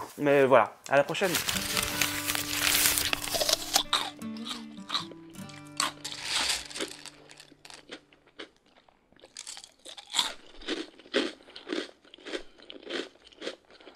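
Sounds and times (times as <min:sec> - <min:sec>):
person chewing crunchy food: 0:01.5 - 0:13.9.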